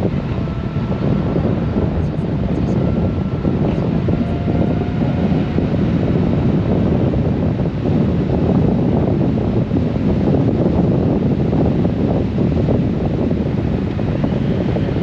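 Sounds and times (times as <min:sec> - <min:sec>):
motorcycle engine running: 0:00.0 - 0:15.0
road noise: 0:00.0 - 0:15.0
wind rush on microphone: 0:00.0 - 0:15.0.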